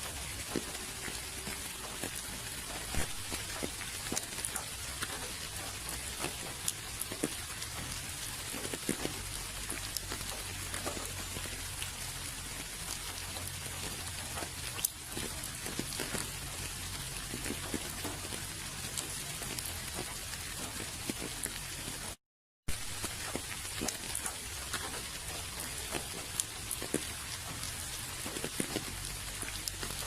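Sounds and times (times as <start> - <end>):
rain falling: 0.0 - 30.0
raindrops ticking close by: 0.0 - 30.0.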